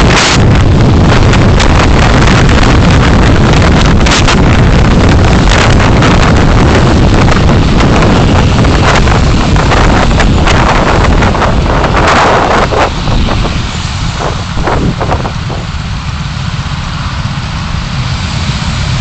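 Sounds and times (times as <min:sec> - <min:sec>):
wind and road noise in car: 0:00.0 - 0:19.0.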